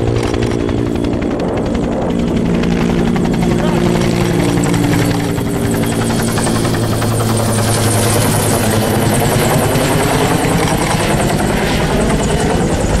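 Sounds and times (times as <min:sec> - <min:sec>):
helicopter rotor beating overhead: 0:00.0 - 0:13.0.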